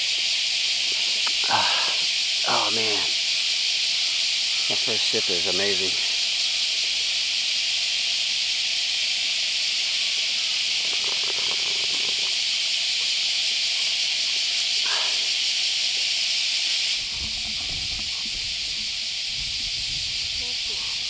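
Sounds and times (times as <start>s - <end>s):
cicadas buzzing: 0.0s - 21.0s
wavering insect call: 0.0s - 21.0s.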